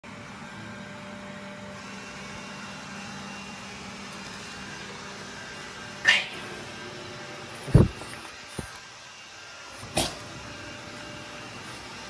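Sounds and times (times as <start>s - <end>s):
robot vacuum cleaner whirring: 0.1s - 12.0s.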